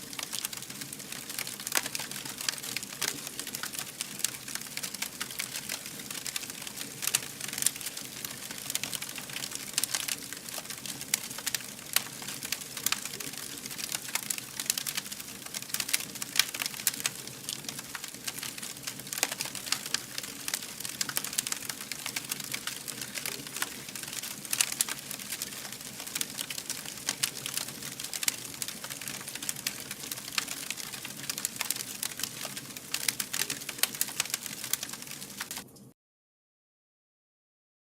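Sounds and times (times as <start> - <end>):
fire popping: 0.0 - 35.8
wood fire crackling: 0.0 - 35.9.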